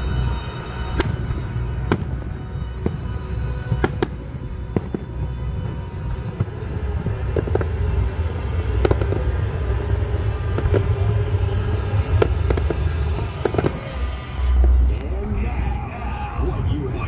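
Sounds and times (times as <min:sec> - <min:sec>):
steady low rumble: 0:00.0 - 0:17.0
fireworks popping and cracking: 0:00.9 - 0:15.1.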